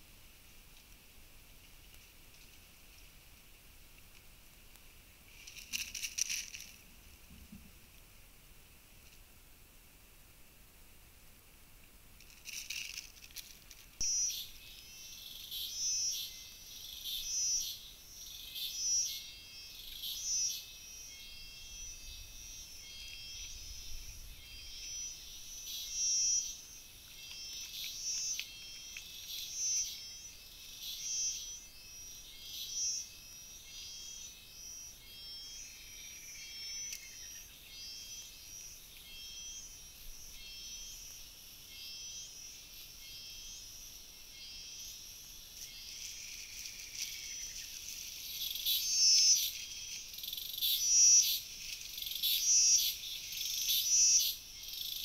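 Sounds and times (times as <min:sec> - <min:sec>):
faint outdoor background: 0:00.0 - 0:55.0.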